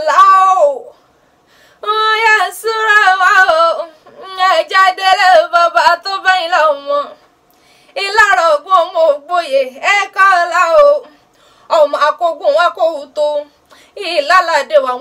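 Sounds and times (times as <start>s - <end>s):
woman chanting unaccompanied: 0.0s - 1.0s, 1.8s - 7.2s, 8.0s - 15.0s.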